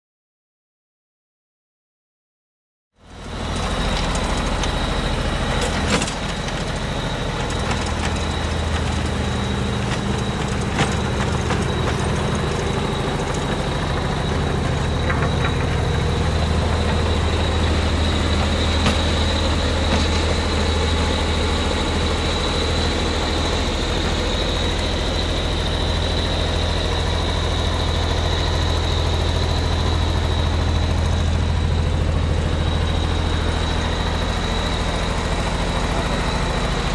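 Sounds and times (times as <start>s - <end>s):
diesel engine running: 3.0s - 36.9s
high-pitched whine: 3.1s - 36.9s.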